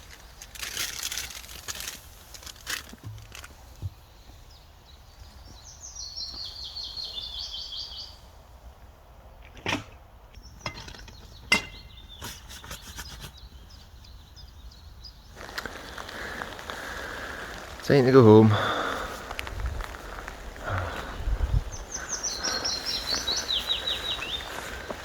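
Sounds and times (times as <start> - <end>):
songbird singing: 3.0 - 25.0.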